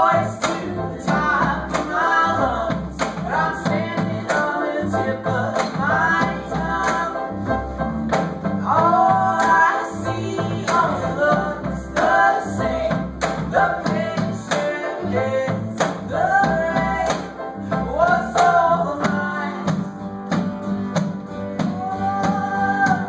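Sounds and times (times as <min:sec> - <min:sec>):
person singing: 0:00.0 - 0:07.4, 0:08.6 - 0:20.0, 0:21.4 - 0:23.0
acoustic guitar: 0:00.0 - 0:23.0
upright bass: 0:00.0 - 0:23.0.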